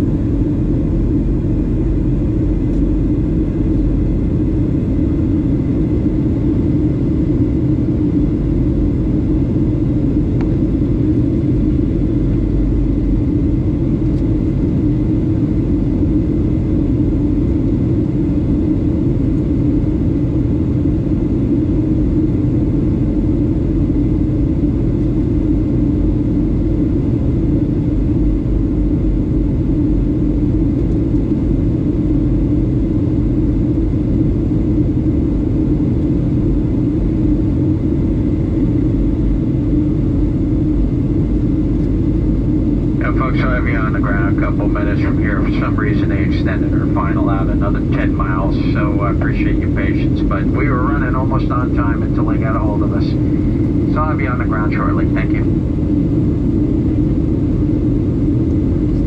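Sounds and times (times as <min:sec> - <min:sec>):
airflow over fuselage: 0:00.0 - 0:59.0
airplane cabin engine drone: 0:00.0 - 0:59.0.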